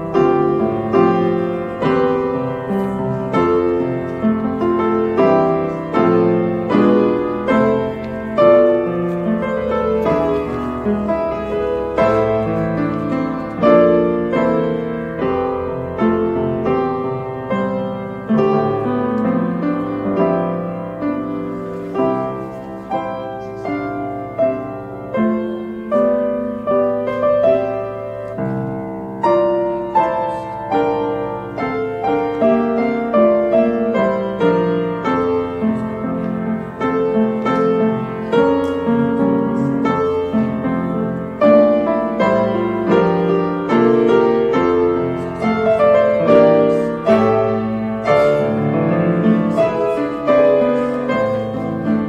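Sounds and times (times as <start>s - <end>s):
slow piano piece: 0.0s - 52.0s.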